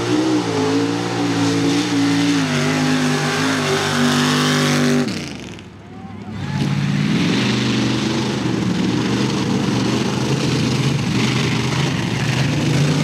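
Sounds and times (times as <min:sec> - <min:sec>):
truck engine revving hard: 0:00.0 - 0:05.6, 0:06.6 - 0:13.0.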